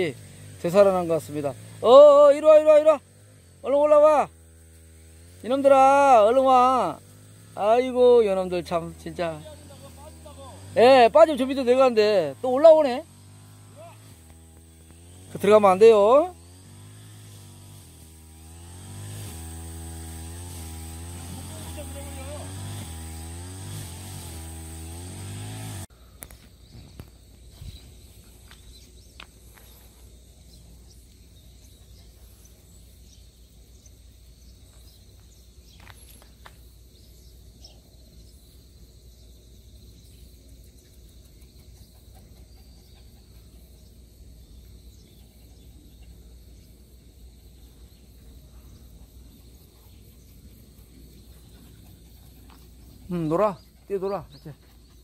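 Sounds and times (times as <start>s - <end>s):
faint insect drone: 0.0s - 55.0s.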